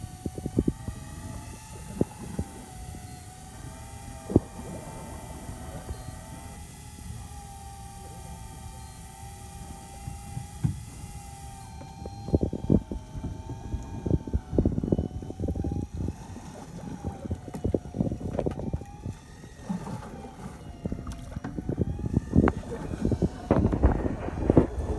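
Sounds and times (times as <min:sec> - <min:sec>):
electric fishing reel motor whine: 0:00.0 - 0:24.9.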